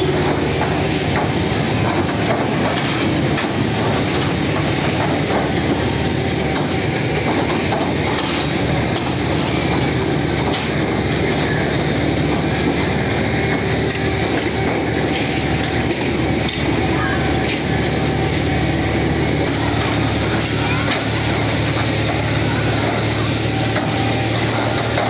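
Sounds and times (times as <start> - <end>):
heavy machinery engine noise: 0.0 - 25.0.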